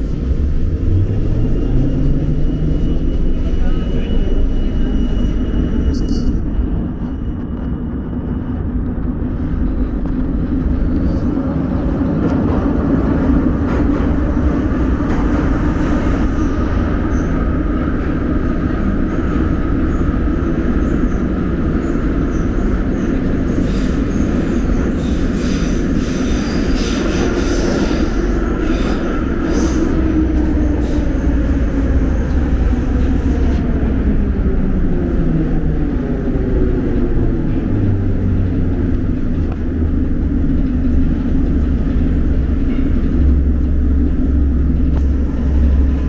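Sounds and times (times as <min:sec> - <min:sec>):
metro train rumbling: 0:00.0 - 0:46.0.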